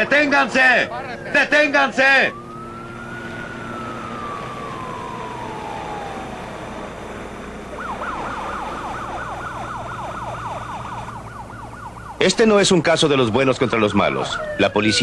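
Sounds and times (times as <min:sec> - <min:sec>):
siren wailing and yelping: 0:00.0 - 0:12.5, 0:13.3 - 0:15.0
truck engine running: 0:00.0 - 0:13.8.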